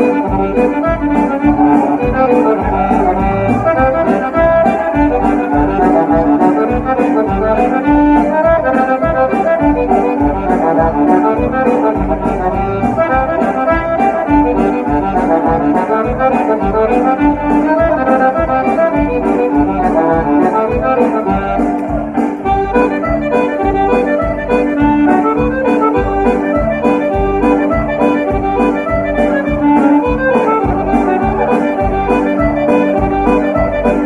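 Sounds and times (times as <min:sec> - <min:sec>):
brass-like tones: 0:00.0 - 0:34.0
button accordion dance tune: 0:00.0 - 0:34.0
drum beat: 0:00.0 - 0:34.0.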